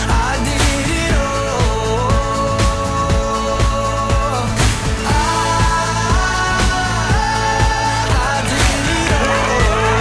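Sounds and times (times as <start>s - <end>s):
pop song: 0.0s - 10.0s.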